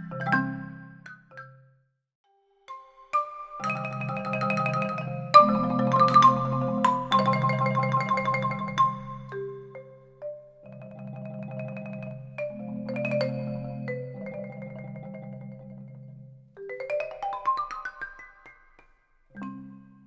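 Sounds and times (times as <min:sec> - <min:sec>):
mallet percussion notes: 0:00.0 - 0:01.7, 0:02.6 - 0:20.0.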